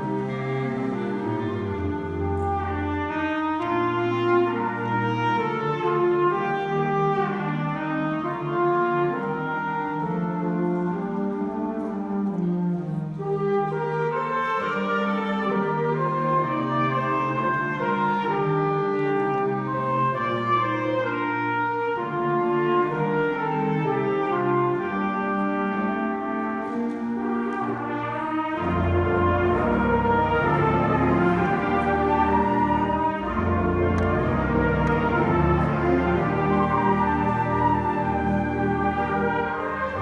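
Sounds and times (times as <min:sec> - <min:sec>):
concert band sustained chords: 0:00.0 - 0:40.0.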